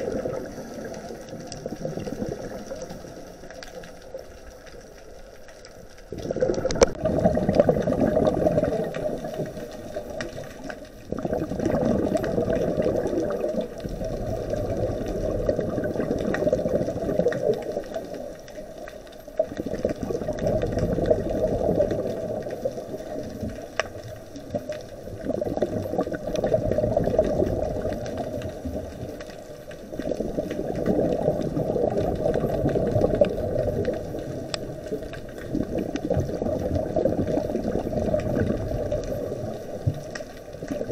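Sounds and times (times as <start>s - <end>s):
underwater air bubbling: 0.0s - 40.9s.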